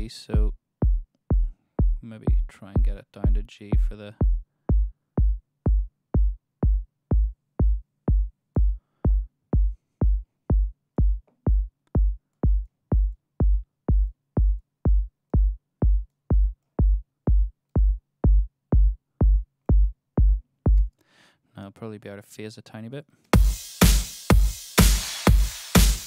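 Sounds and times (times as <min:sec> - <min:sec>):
electronic kick drum loop: 0:00.0 - 0:20.9, 0:23.4 - 0:26.0.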